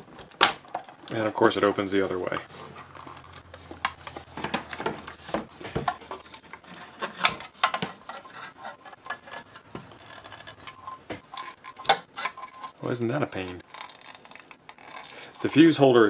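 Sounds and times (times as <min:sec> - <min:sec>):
plastic clicks and scraping: 0:00.0 - 0:15.6.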